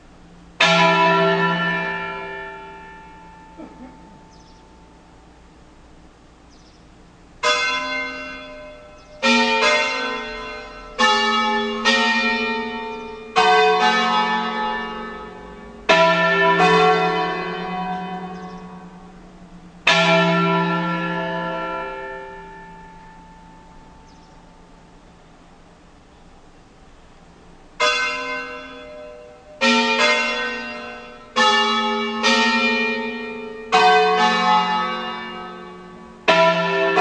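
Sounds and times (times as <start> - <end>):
church bell strokes: 0.6 - 5.1, 7.4 - 25.2, 27.8 - 37.0.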